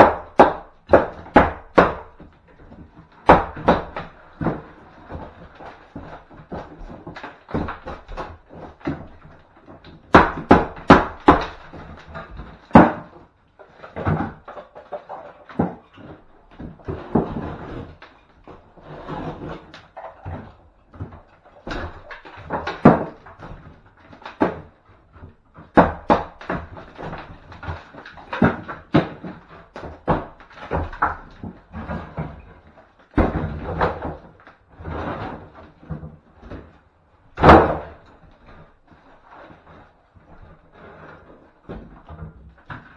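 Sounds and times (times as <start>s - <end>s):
knocks bangs and scrapes of timber: 0.0s - 42.9s.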